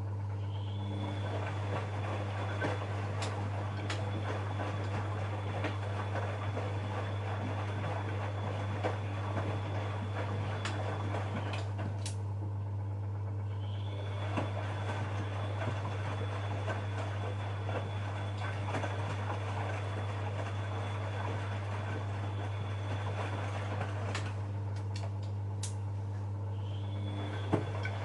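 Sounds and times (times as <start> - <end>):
steady low hum: 0.0 - 28.0
washing machine motor whining: 0.0 - 28.0
water sloshing: 1.0 - 12.0, 13.7 - 24.9, 26.8 - 28.0
clicking in washing machine: 1.0 - 12.3, 13.6 - 25.8, 26.9 - 28.0.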